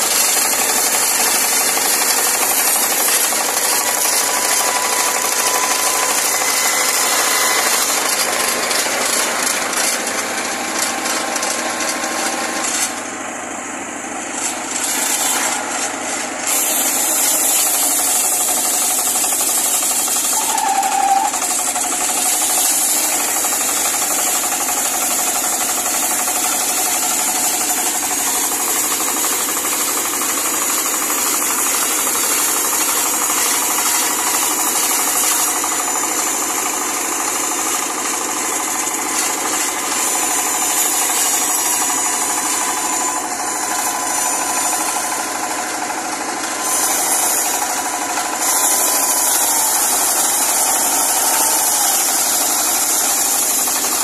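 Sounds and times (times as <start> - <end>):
circular saw cutting log: 0.0 - 54.0
diesel engine clatter: 0.0 - 54.0.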